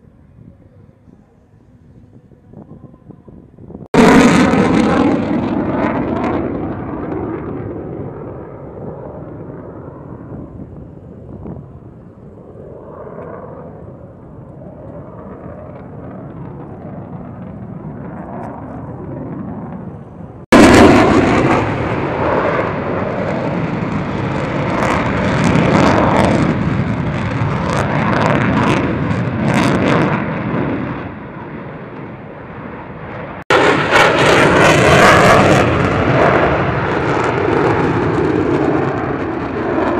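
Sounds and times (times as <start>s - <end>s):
loud jet engine noise: 0.0s - 39.9s.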